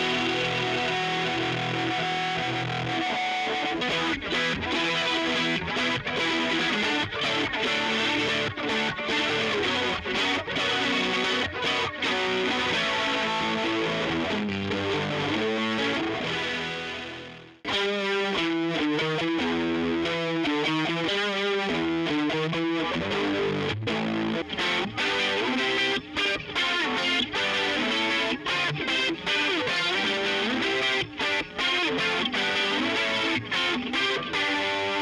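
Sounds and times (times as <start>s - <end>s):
distorted electric guitar: 0.0s - 35.0s.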